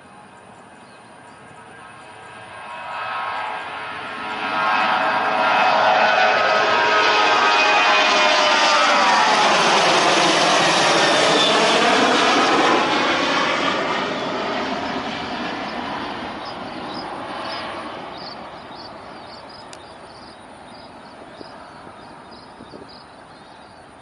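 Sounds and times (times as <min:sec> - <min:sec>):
jet airliner taking off: 0:00.0 - 0:24.0.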